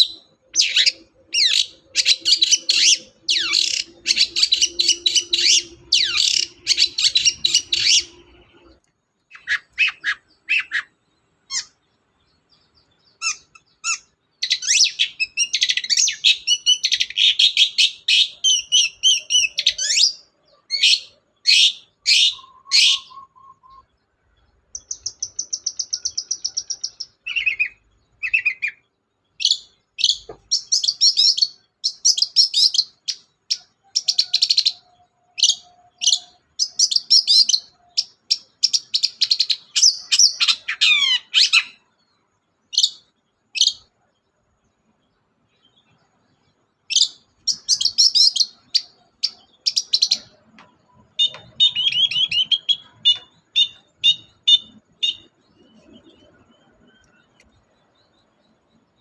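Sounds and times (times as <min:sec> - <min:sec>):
bird chattering chirps: 0:00.0 - 0:42.1, 0:46.9 - 0:59.0
high bird trill: 0:00.0 - 0:44.1, 0:45.1 - 0:59.0.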